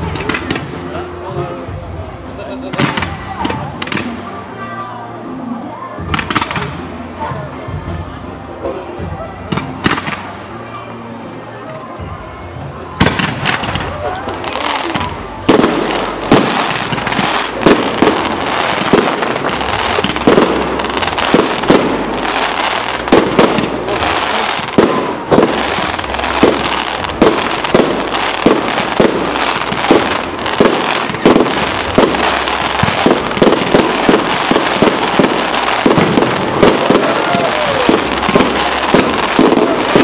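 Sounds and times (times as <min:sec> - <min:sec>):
firework crackle and hiss: 0:00.0 - 0:40.0.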